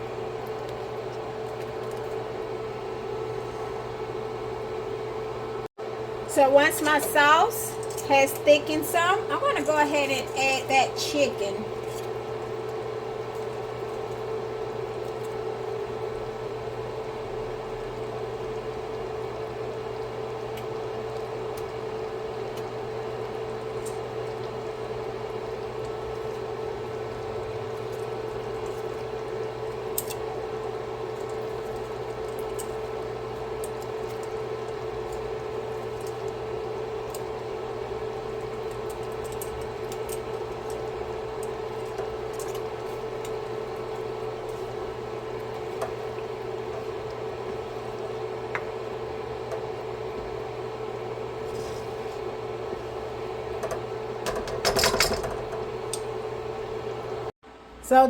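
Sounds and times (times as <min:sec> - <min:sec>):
constant hum: 0:00.0 - 0:58.0.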